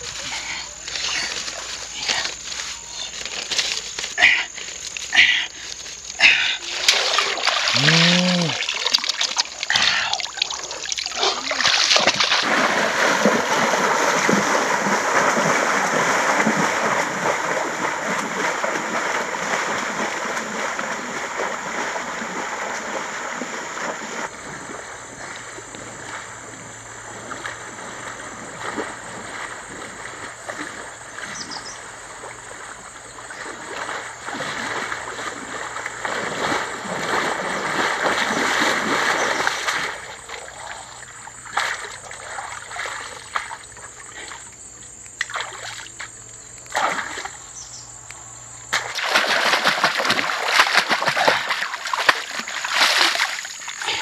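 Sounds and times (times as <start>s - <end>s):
water splashing from wading: 4.2s - 47.4s, 48.7s - 54.0s.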